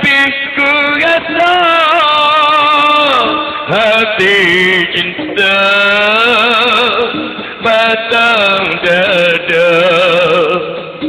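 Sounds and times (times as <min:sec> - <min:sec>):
musical accompaniment: 0:00.0 - 0:11.0
person singing slow love song: 0:00.0 - 0:11.0.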